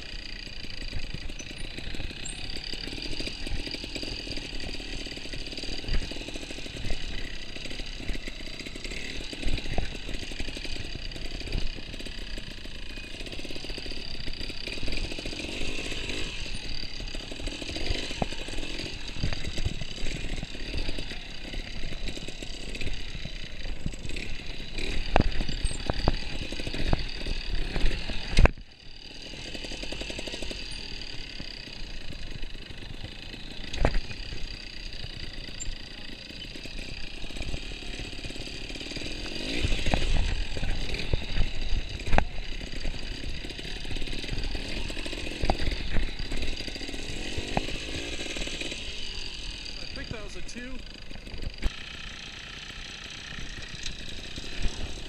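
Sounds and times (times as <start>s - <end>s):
motorcycle engine at low revs: 0.0s - 55.0s.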